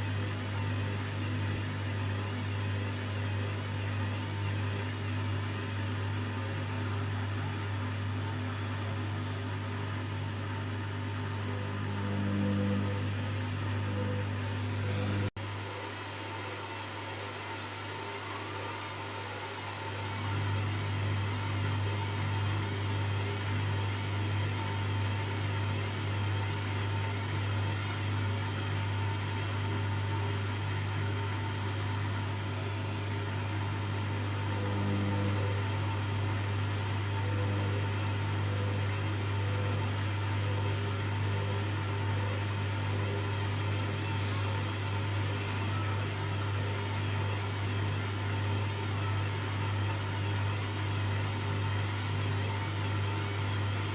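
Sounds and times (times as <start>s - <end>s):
washing machine spinning: 0.0s - 53.9s.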